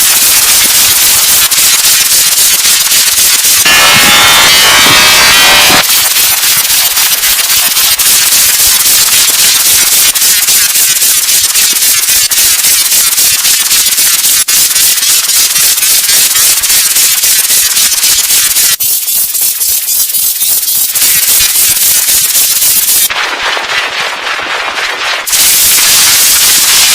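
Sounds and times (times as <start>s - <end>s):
distorted crackling noise: 0.0s - 18.8s, 19.9s - 26.9s.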